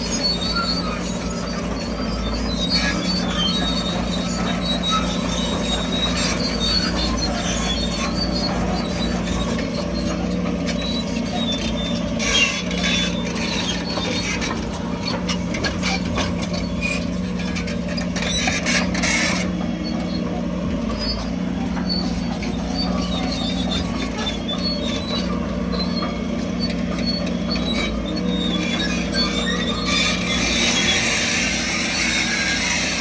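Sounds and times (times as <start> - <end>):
bulldozer diesel engine running: 0.0 - 33.0
steel tracks squeaking and scraping: 0.0 - 33.0.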